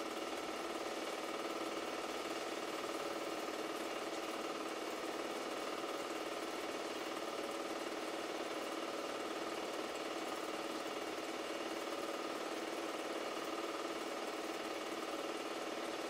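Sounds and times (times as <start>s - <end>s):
film projector motor whir: 0.0s - 16.0s.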